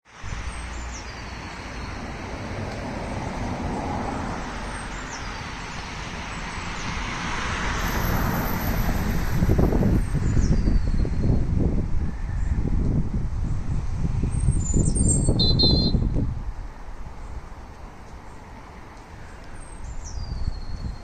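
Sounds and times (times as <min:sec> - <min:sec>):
road traffic noise: 0:00.0 - 0:21.0
wind buffeting microphone: 0:00.2 - 0:21.0.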